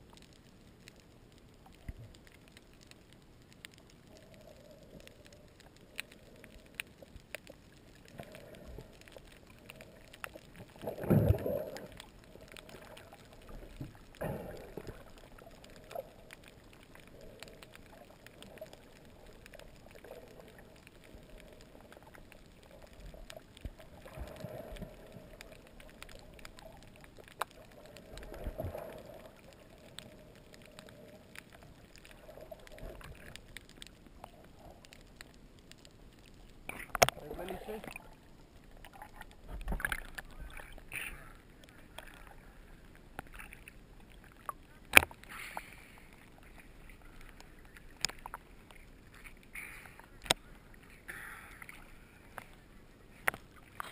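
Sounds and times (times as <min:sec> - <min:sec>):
faint underwater clicks: 0:00.0 - 0:53.9
low surges of water: 0:00.0 - 0:53.9
muffled underwater water noise: 0:00.0 - 0:53.9.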